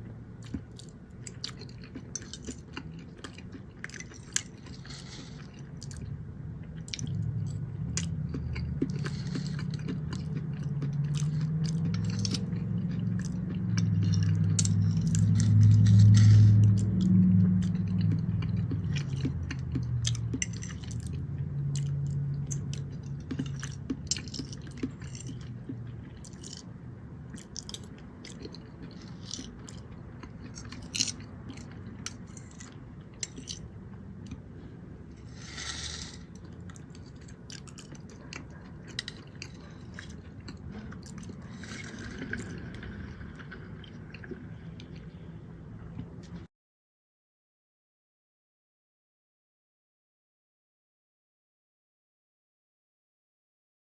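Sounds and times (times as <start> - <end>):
close chewing with mouth clicks: 0.4 - 34.6, 35.2 - 45.2.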